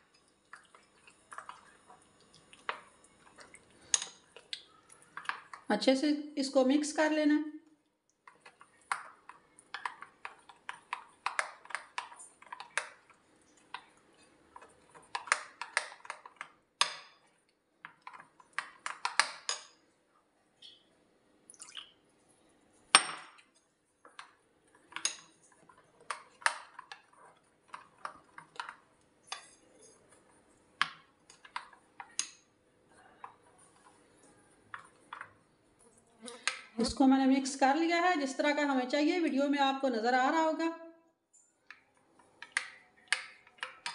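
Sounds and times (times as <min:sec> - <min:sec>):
spoon stirring batter in a bowl: 0:00.0 - 0:06.0, 0:08.0 - 0:20.0, 0:21.9 - 0:37.0, 0:41.4 - 0:43.9.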